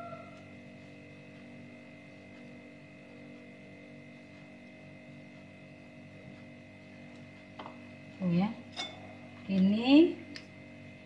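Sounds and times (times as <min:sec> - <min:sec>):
electrical hum and whine: 0:00.0 - 0:11.0.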